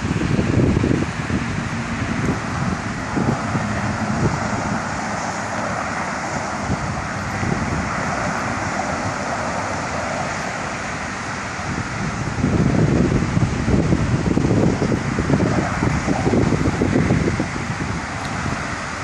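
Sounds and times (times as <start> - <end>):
storm wind rushing: 0.0 - 19.0
wind buffeting microphone: 0.0 - 19.0.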